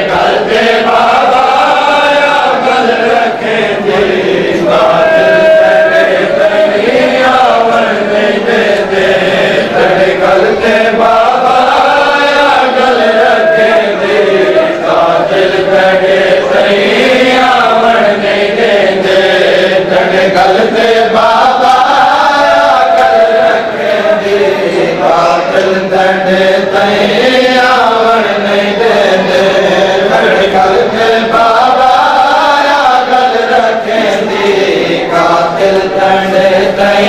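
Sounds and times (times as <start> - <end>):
men chanting a lament: 0.0 - 37.0.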